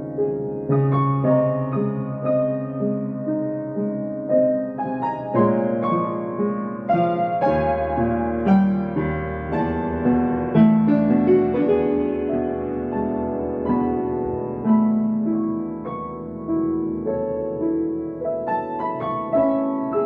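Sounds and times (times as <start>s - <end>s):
slow gentle solo piano: 0.0s - 20.0s.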